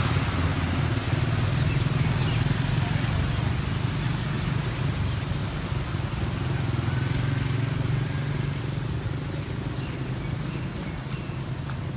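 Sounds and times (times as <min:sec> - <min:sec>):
small motorcycle engines running: 0:00.3 - 0:11.9.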